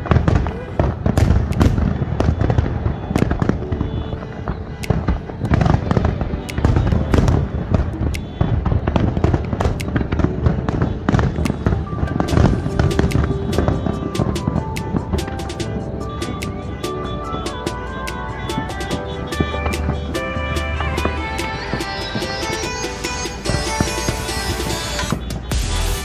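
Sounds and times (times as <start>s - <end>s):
fireworks bursting: 0.0s - 26.0s
music playing: 0.0s - 26.0s.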